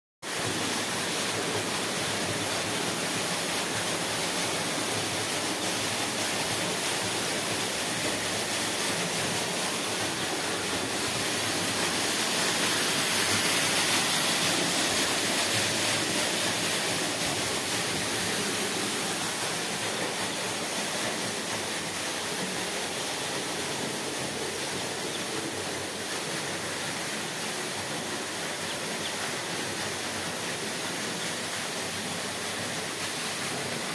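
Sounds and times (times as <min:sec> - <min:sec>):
water gushing into a well: 0:00.2 - 0:33.9.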